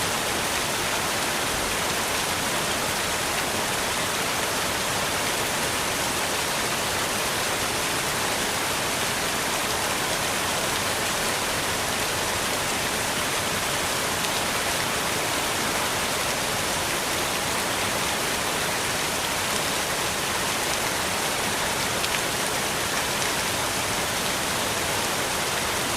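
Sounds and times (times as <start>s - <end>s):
fountain water splashing: 0.0s - 25.9s.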